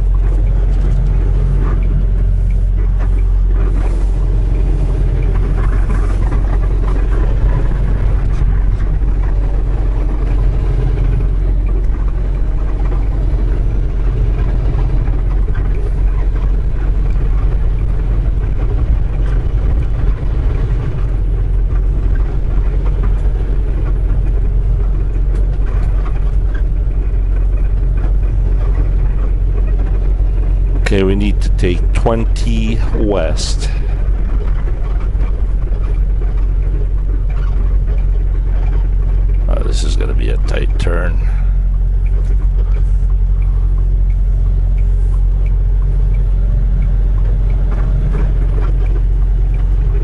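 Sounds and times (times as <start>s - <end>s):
road noise: 0.0s - 50.0s
truck diesel engine rumbling: 0.0s - 50.0s.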